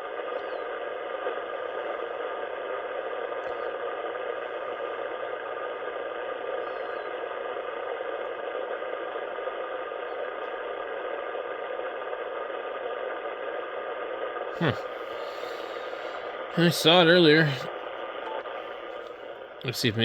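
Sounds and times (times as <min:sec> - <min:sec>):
radio receiver hiss: 0:00.0 - 0:20.0.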